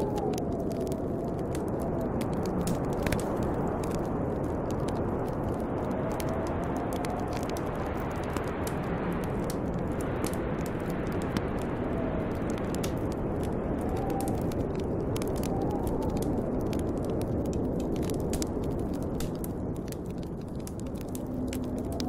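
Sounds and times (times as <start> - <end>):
wind blowing and whistling: 0.0 - 22.0
wood fire crackling and popping: 0.0 - 22.0.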